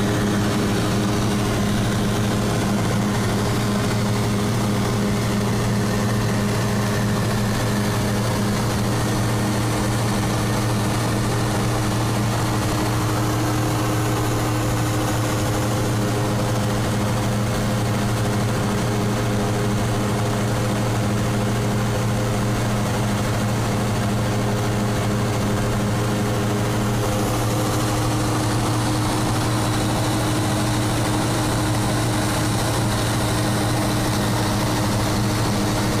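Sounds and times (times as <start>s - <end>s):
airplane engine and propeller: 0.0s - 36.0s.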